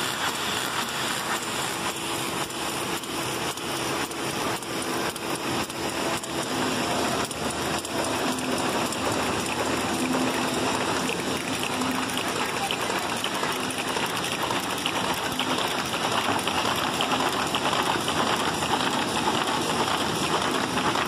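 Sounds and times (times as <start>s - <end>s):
paper folding machine clattering: 0.0s - 21.0s.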